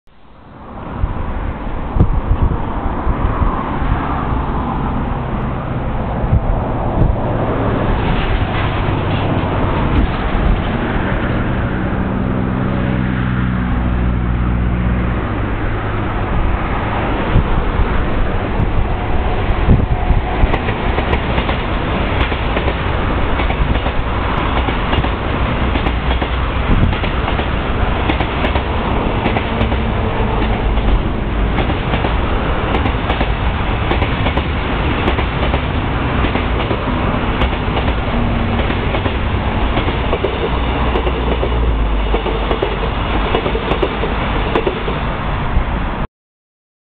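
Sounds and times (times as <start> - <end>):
electric locomotive passing: 0.2 - 46.0
freight wagons rumbling on rails: 0.5 - 46.0.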